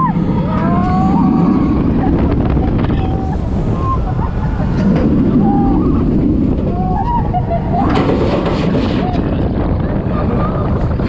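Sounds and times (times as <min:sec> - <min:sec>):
roller coaster rumble: 0:00.0 - 0:11.0
wind hitting microphone: 0:00.0 - 0:11.0.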